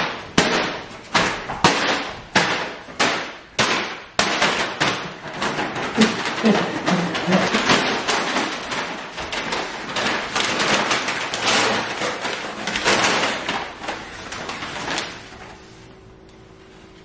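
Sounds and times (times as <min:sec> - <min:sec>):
paper bags crinkling: 0:00.0 - 0:16.0.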